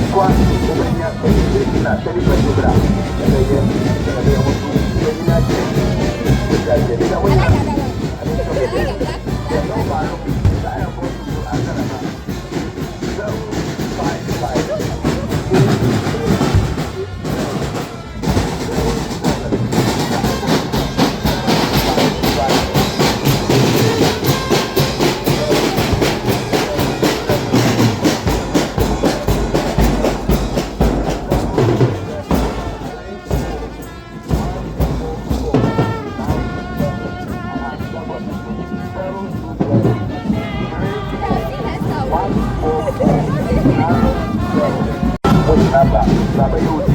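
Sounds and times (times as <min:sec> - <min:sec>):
fast loud drumming: 0:00.0 - 0:46.9
voices: 0:00.0 - 0:46.9.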